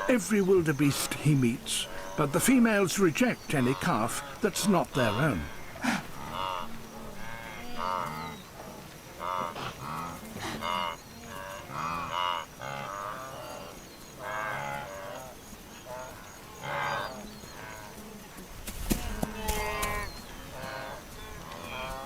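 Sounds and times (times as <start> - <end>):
wildebeest grunting and bleating: 0.0 - 22.0.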